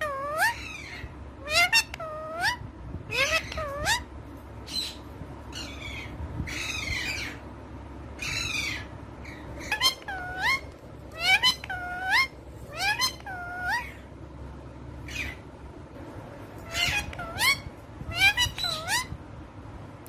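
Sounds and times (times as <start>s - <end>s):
parakeet calling: 0.0s - 7.5s, 8.2s - 14.2s, 15.0s - 15.5s, 16.6s - 19.2s.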